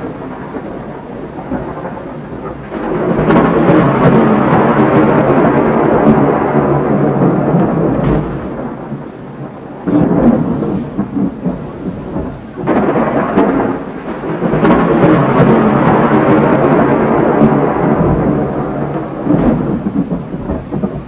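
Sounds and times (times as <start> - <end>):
thunder rolling: 0.0 - 21.0.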